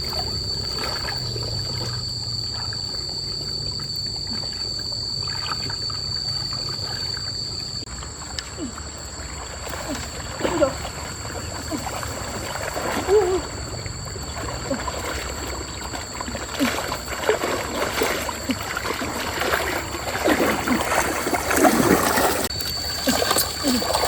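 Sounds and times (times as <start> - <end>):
stream water splashing and gurgling: 0.0 - 24.0.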